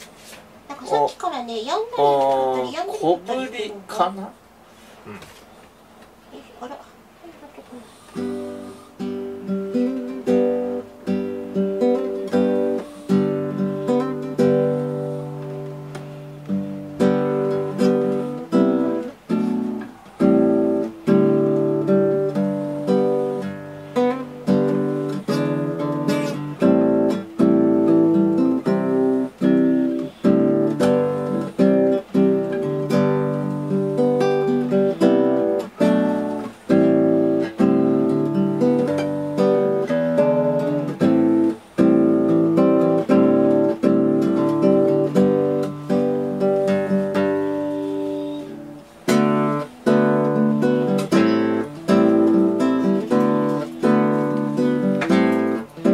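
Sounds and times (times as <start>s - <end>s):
acoustic guitar strumming chords: 8.0s - 55.9s.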